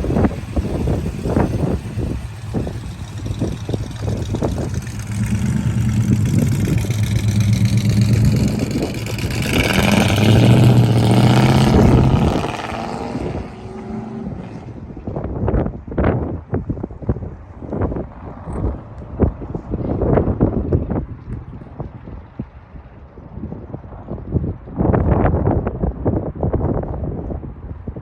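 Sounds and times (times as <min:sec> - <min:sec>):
car engine driving: 0:00.0 - 0:23.0
wind buffeting microphone: 0:00.0 - 0:28.0.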